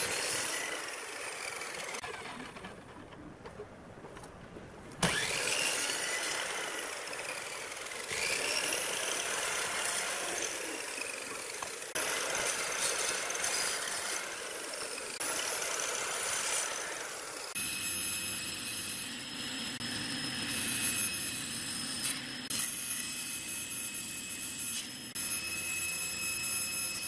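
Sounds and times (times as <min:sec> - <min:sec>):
miter saw cutting wood: 0:00.0 - 0:27.0.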